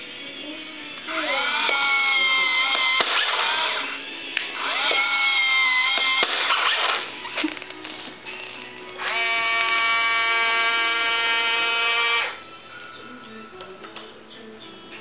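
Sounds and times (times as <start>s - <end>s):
electric gear motors whining: 0.0s - 12.6s.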